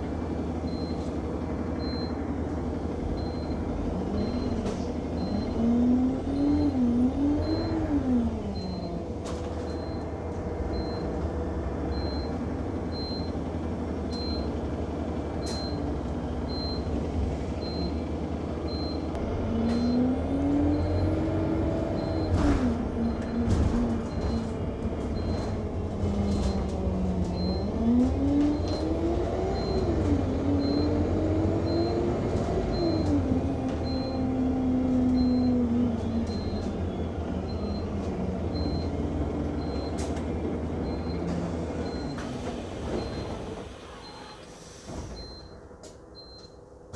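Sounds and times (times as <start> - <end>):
bus engine: 0.0 - 46.9.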